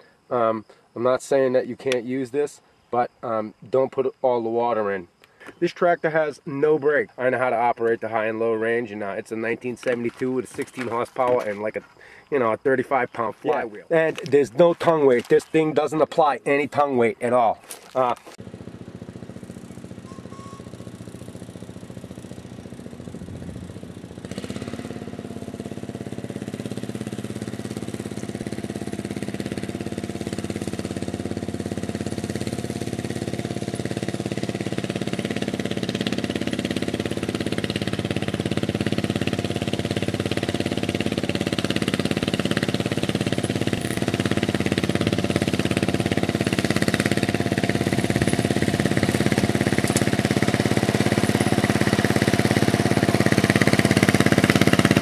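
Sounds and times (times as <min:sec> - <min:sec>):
tractor engine running: 0:05.4 - 0:55.0.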